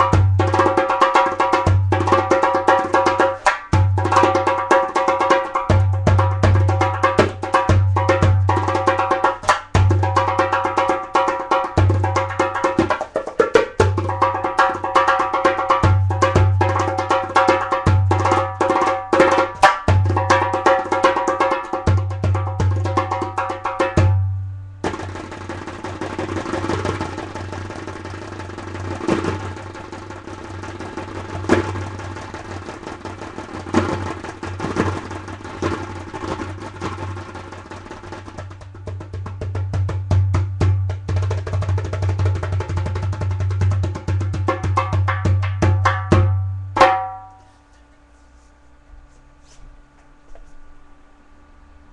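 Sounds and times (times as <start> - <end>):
hand drum strokes: 0.0 - 49.7.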